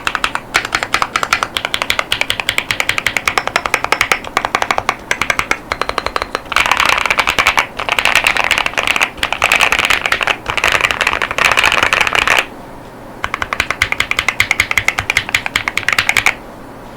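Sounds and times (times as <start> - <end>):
mechanical keyboard typing: 0.0 - 12.5, 13.2 - 16.4.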